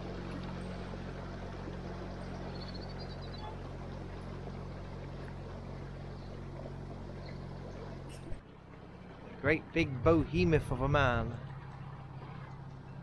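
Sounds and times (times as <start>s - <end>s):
diesel engine humming: 0.0s - 13.0s
water noise: 0.0s - 13.0s.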